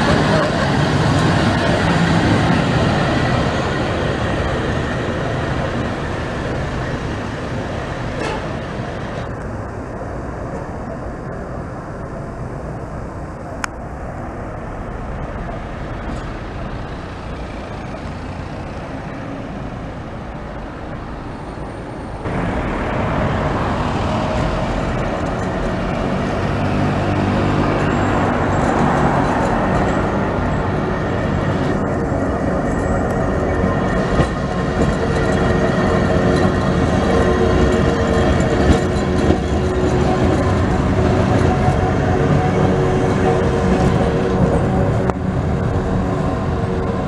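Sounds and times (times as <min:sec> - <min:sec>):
city street traffic: 0:00.0 - 0:47.0
electric tram running on rails: 0:00.0 - 0:47.0.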